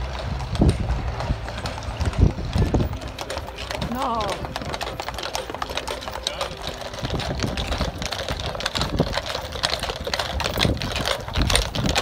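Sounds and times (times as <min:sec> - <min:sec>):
horse hooves on asphalt: 0:00.0 - 0:12.0.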